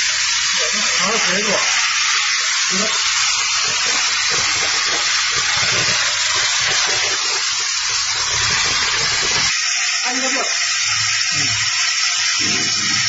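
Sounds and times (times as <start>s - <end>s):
laser cutting machine hissing air: 0.0s - 13.0s.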